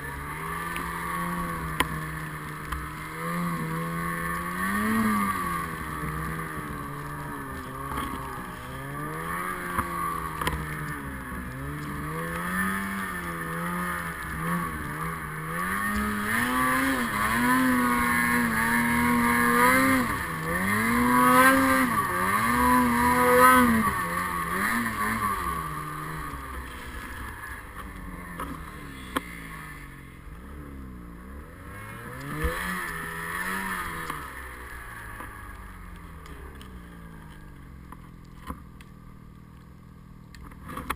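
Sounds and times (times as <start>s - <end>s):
snowmobile engine revving: 0.0s - 37.2s.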